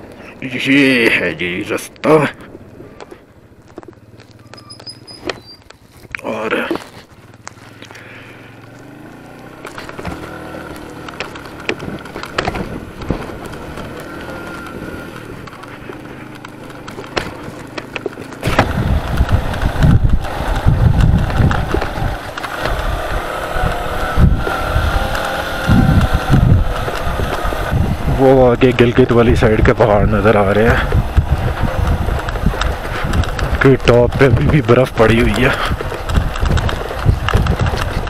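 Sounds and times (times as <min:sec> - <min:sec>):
stones crunching under tyres: 0:00.0 - 0:38.0
motorcycle engine running: 0:02.1 - 0:38.0.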